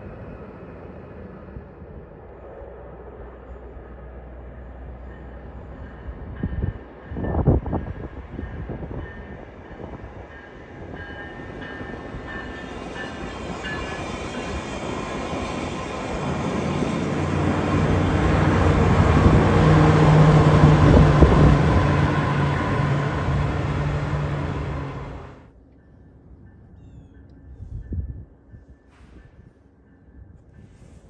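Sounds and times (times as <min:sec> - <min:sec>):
train wheels rumbling on rails: 0:00.0 - 0:25.5
diesel locomotive hum: 0:00.0 - 0:25.6.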